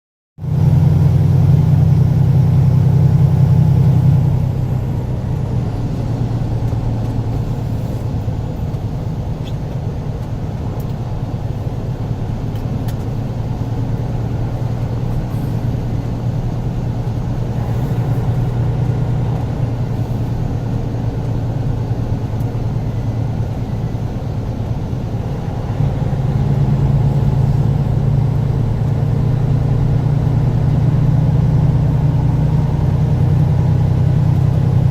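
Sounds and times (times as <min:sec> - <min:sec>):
road noise: 0:00.4 - 0:34.9
truck engine running: 0:00.4 - 0:34.9.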